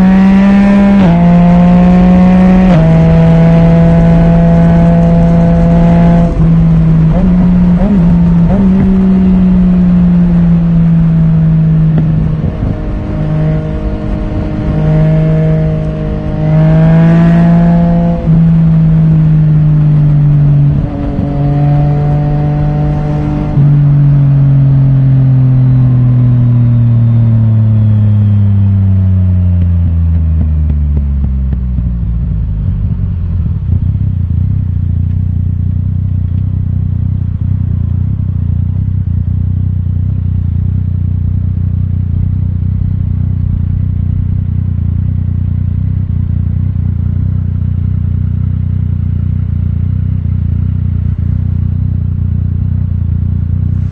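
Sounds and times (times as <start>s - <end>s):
motorcycle engine: 0.0s - 53.9s.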